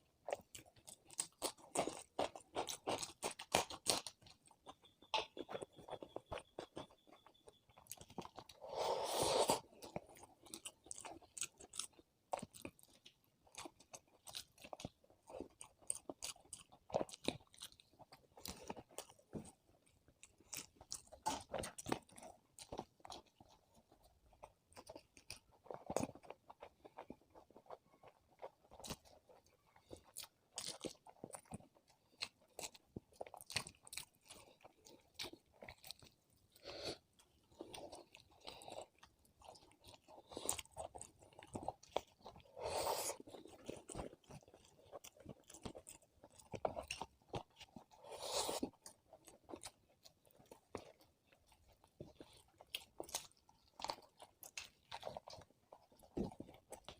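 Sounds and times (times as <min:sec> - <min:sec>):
close-miked chewing and crunching: 0:00.0 - 0:56.9.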